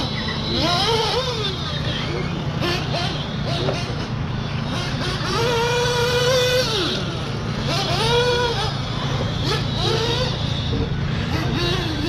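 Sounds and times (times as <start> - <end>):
model car engine revving: 0.0 - 12.0
steady low hum: 0.0 - 12.0.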